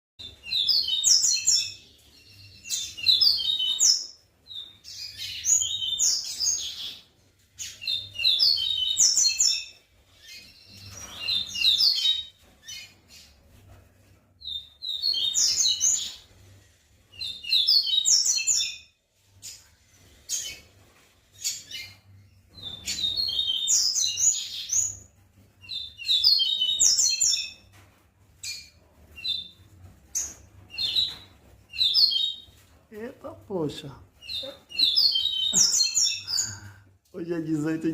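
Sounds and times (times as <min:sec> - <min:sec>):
caged bird singing chirping notes: 0:00.2 - 0:13.0, 0:14.4 - 0:16.4, 0:17.1 - 0:20.6, 0:21.4 - 0:25.0, 0:25.6 - 0:27.6, 0:28.4 - 0:36.8.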